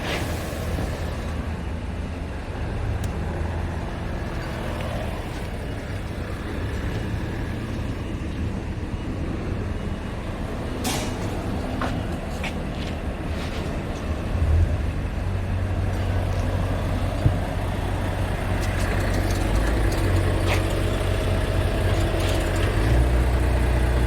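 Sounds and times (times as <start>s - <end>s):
truck diesel engine idling: 0.0s - 24.0s.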